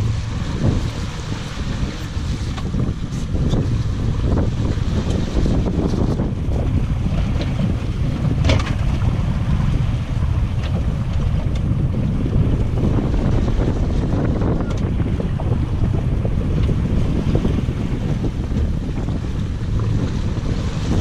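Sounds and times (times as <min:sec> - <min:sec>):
sea noise: 0:00.0 - 0:21.0
wind buffeting microphone: 0:00.0 - 0:21.0.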